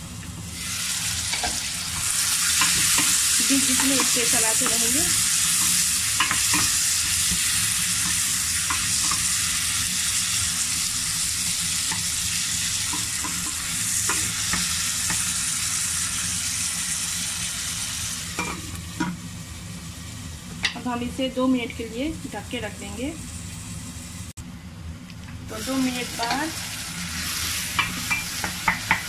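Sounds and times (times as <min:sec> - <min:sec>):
vegetables sizzling in a pot: 0:00.0 - 0:24.4, 0:25.2 - 0:29.0.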